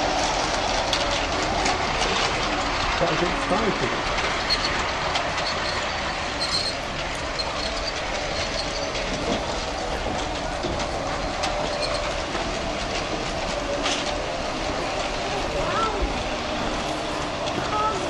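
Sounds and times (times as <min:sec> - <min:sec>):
model train motor whirring: 0:00.0 - 0:18.0.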